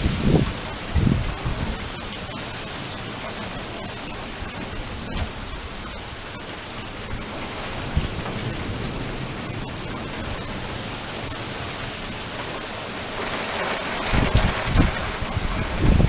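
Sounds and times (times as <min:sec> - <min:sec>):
heavy rain falling: 0:00.0 - 0:16.0
low thunder rumbling: 0:00.0 - 0:16.0.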